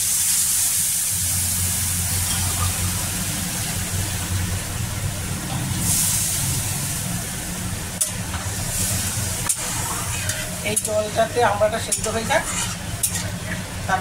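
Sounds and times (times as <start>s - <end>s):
oil and water sizzling: 0.0s - 14.0s.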